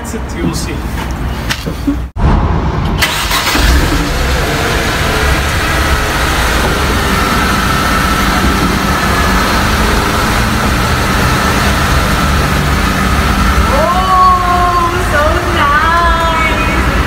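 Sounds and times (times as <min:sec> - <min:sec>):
car engine idling: 0:02.8 - 0:17.0.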